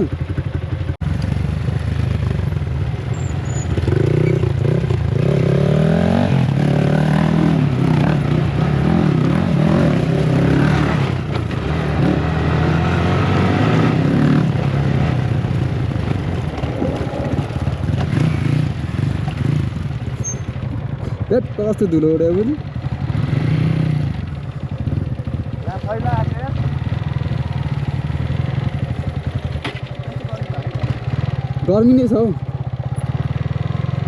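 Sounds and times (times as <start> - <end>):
motorcycle engines accelerating: 0.0 - 34.0.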